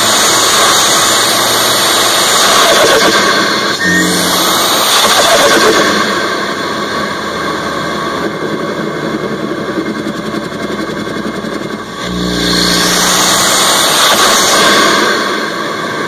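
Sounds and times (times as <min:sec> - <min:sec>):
engine and induction rush: 0:00.0 - 0:16.0.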